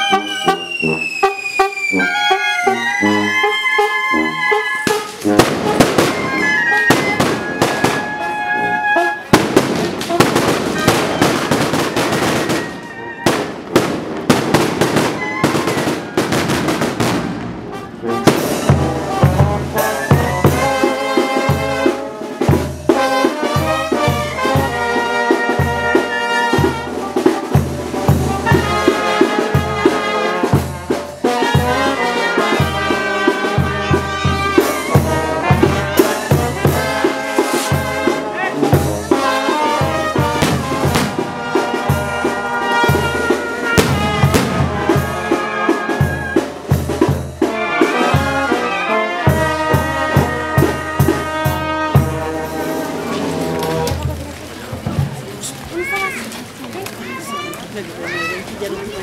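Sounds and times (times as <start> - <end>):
trumpets and trombones: 0.0 - 56.3.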